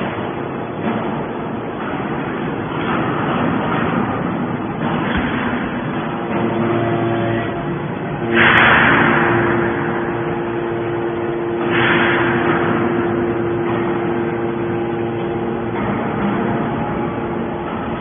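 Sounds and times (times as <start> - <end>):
baler machine hum: 0.0 - 18.0.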